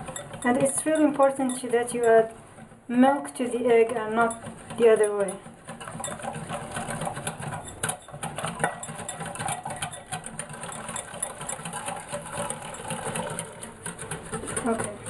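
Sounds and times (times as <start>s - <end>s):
whisk clicking against glass bowl: 0.0s - 2.8s, 3.4s - 15.0s.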